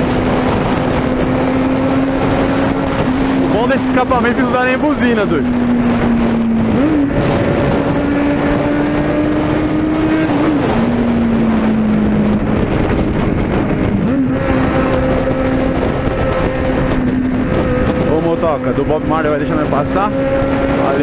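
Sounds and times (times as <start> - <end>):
motorcycle engine revving: 0.0 - 21.0
wind rushing over microphone: 0.0 - 21.0.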